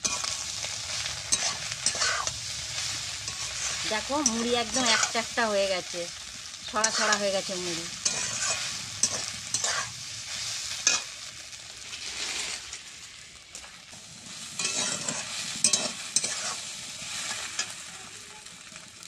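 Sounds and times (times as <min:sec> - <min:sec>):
metal spatula scraping a pan: 0:00.0 - 0:05.6, 0:06.8 - 0:12.9, 0:13.5 - 0:18.2
steady frying sizzle: 0:00.0 - 0:19.0.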